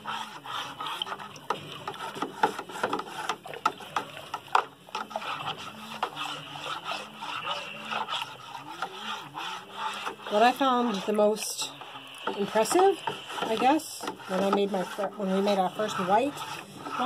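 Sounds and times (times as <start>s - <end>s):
juice swishing: 0.0s - 17.0s
spoon knocking and scraping bucket: 0.0s - 17.0s.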